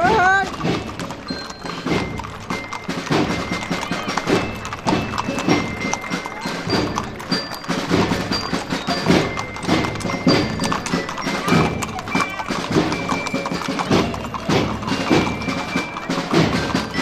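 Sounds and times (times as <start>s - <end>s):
horse hooves clopping on pavement: 0.0s - 17.0s
high ringing notes: 0.5s - 17.0s.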